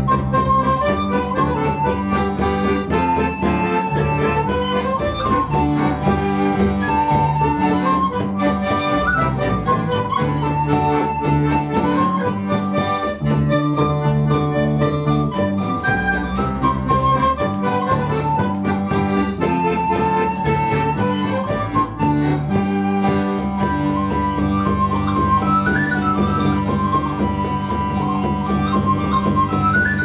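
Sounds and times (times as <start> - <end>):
accordion: 0.0 - 30.0
acoustic guitar: 0.0 - 30.0
bodhran drum beat: 0.0 - 30.0
whistle: 0.0 - 30.0.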